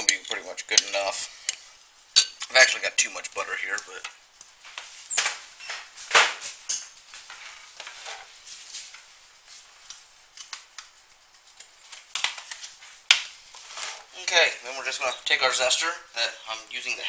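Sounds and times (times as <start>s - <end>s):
quiet hiss: 0.0s - 17.0s.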